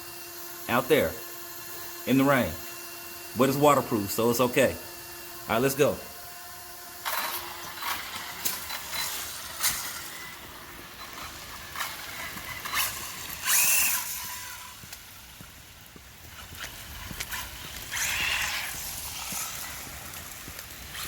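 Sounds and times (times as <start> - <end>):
electric motor whining in bursts: 0.0 - 21.0.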